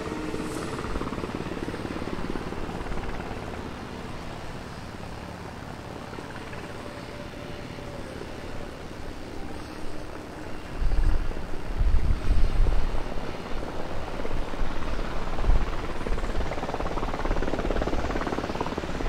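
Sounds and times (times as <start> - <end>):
helicopter rotor chop: 0.0 - 19.0.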